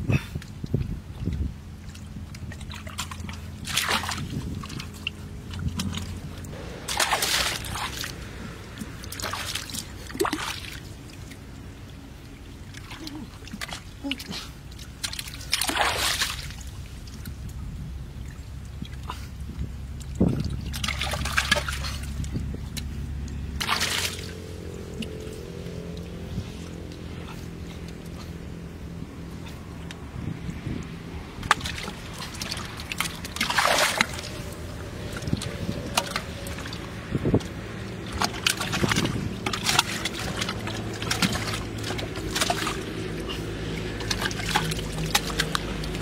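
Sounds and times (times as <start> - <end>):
low steady hum: 0.0 - 46.0
muddy water splashing: 0.0 - 46.0.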